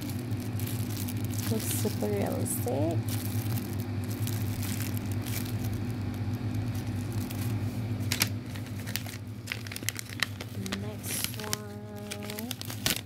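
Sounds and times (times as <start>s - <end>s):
plastic bag crinkling: 0.0s - 13.0s
steady low hum: 0.0s - 13.0s.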